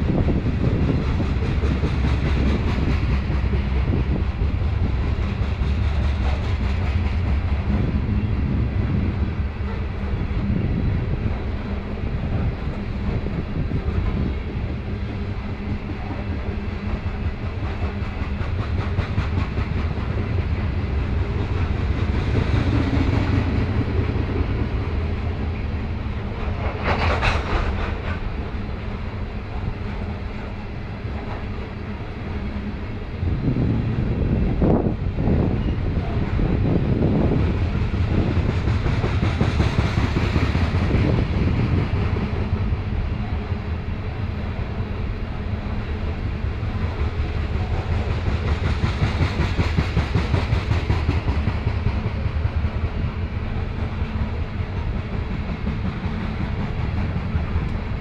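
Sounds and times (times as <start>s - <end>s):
freight train wheels on rails: 0.0s - 58.0s
train rattle: 0.0s - 58.0s.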